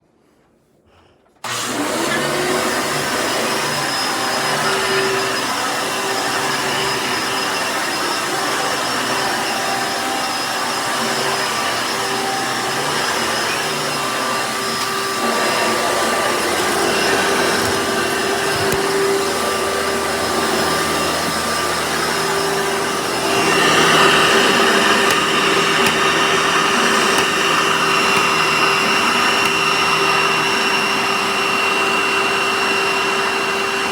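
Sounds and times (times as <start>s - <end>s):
vacuum cleaner motor whining: 1.4s - 33.9s.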